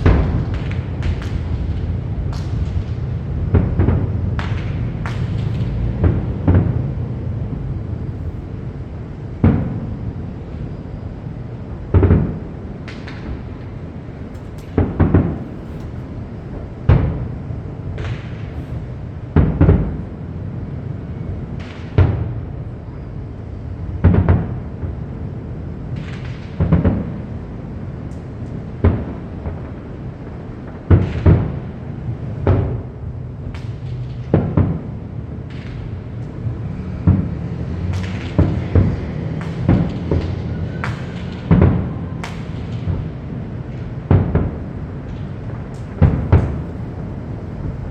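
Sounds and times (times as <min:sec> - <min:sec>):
fireworks bangs: 0:00.0 - 0:22.7, 0:23.8 - 0:47.9.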